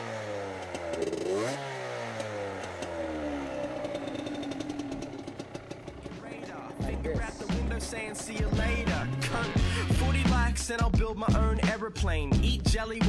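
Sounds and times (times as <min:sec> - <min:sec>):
two-stroke engine revving and idling: 0:00.0 - 0:13.0.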